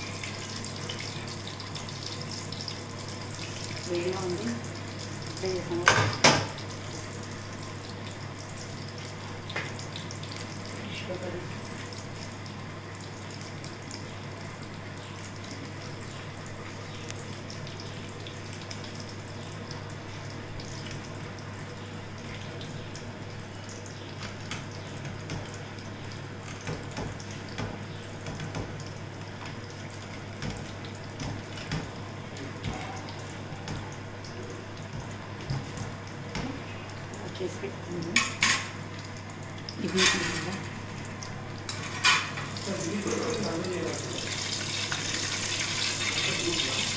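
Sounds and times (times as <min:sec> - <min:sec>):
hot oil sizzling: 0:00.0 - 0:46.9.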